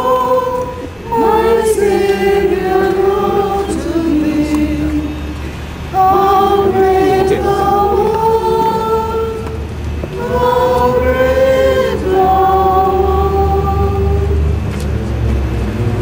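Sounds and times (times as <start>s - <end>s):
group singing a slow hymn: 0.0s - 14.7s
low steady hum: 0.0s - 16.0s.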